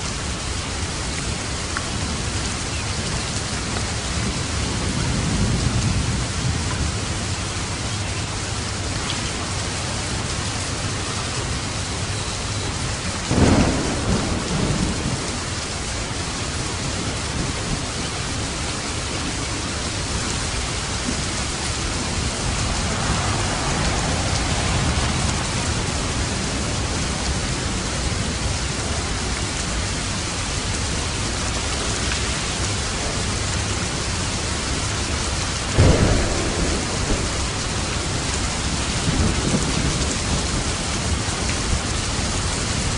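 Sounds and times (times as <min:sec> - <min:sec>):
rain on a roof: 0:00.0 - 0:42.9
thunder cracking and rumbling: 0:03.0 - 0:42.9.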